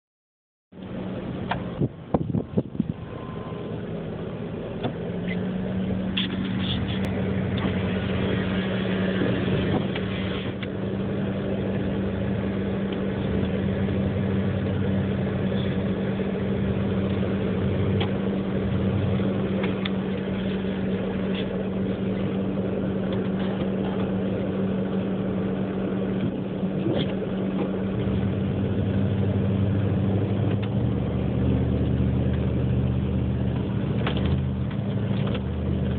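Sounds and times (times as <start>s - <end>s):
engine running steadily: 0.7s - 35.9s.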